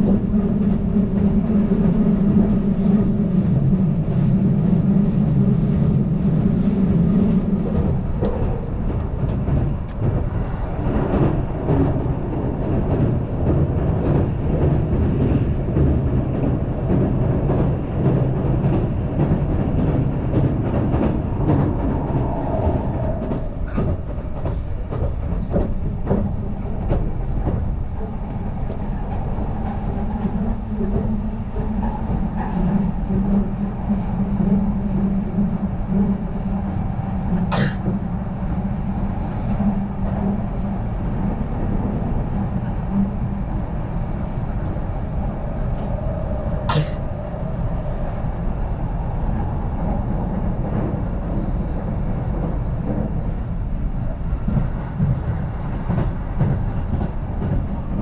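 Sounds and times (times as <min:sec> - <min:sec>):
wheels rumbling on rail: 0:00.0 - 0:58.0
rail joint clicks: 0:05.6 - 0:58.0.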